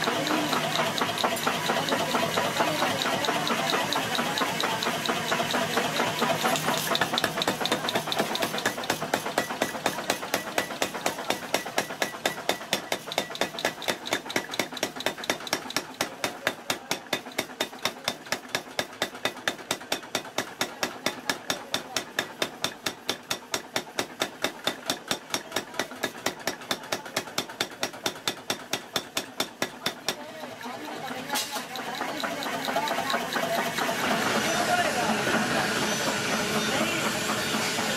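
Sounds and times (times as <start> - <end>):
power hammer striking hot steel: 0.0 - 30.2, 31.4 - 37.9.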